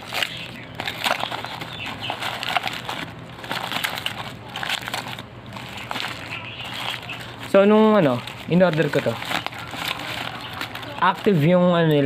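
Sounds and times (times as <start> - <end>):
plastic bag tearing and crinkling: 0.0 - 12.0.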